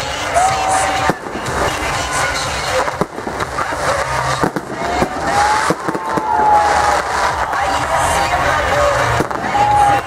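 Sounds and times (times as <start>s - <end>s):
fireworks bangs and crackling: 0.0s - 10.0s
rising firework whistle: 0.3s - 10.0s.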